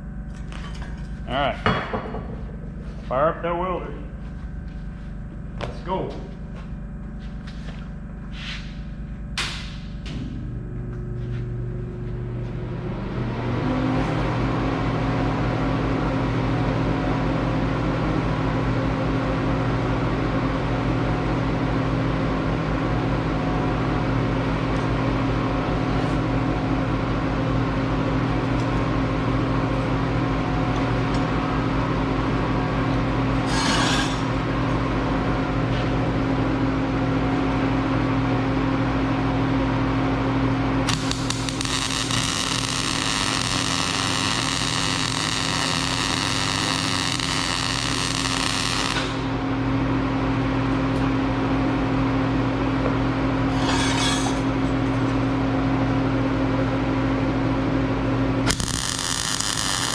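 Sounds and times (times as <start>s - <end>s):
electric welder humming and hissing: 0.0s - 59.9s.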